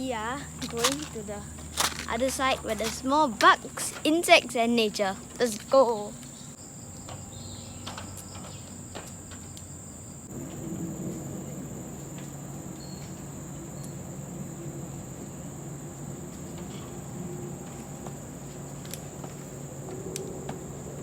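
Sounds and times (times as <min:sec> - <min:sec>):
insects chorus shrill drone: 0:00.0 - 0:21.0.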